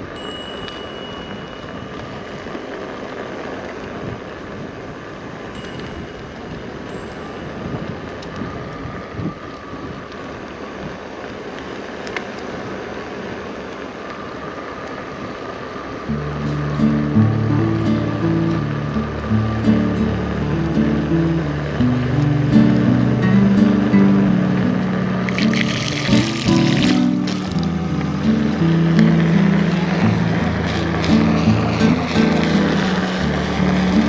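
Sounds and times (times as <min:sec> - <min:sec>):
wheel rolling noise: 0:00.0 - 0:34.0
wind noise: 0:00.0 - 0:34.0.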